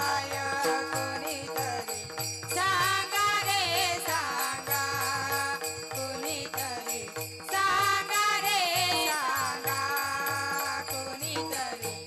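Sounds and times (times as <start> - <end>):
girls singing: 0.0 - 1.9, 2.6 - 6.8, 7.5 - 11.9
hand drum rhythm: 0.0 - 12.0
small hand cymbals: 0.0 - 12.0.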